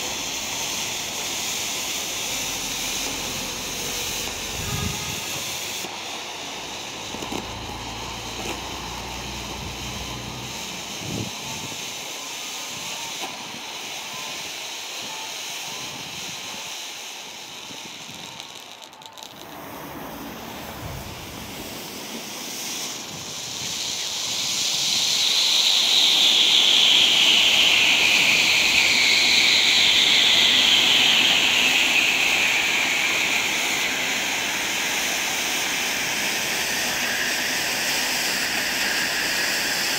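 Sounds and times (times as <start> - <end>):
smoke bombs hissing: 0.0 - 39.9.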